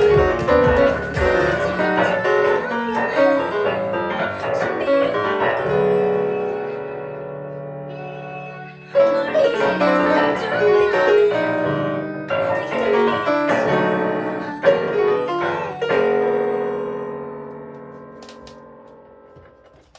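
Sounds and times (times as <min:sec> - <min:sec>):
piano ensemble playing: 0:00.0 - 0:19.2.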